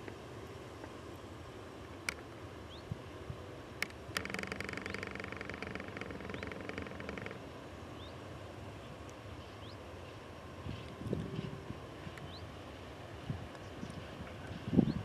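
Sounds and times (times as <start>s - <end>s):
distant freight train rumble: 0.9s - 15.0s.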